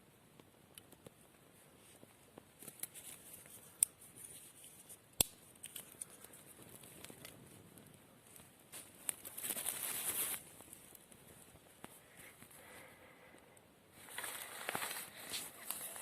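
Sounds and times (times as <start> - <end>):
fire popping: 0.0 - 4.3, 4.9 - 16.0
campfire crackling: 0.0 - 16.0.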